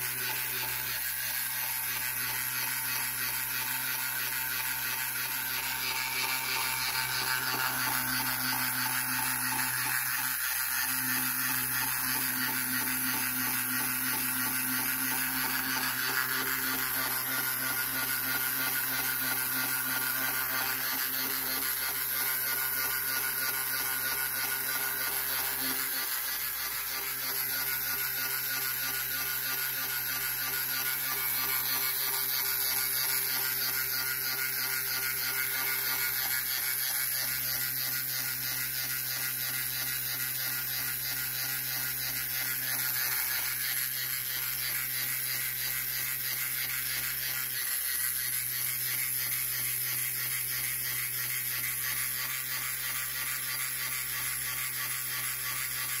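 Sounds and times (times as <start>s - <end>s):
small electric motor whirring: 0.0s - 56.0s.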